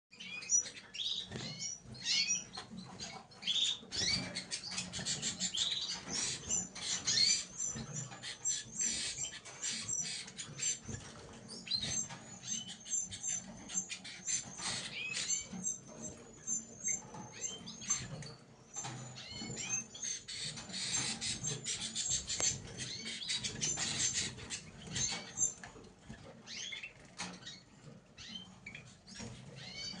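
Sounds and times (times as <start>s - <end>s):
canaries chirping and trilling: 0.1s - 30.0s.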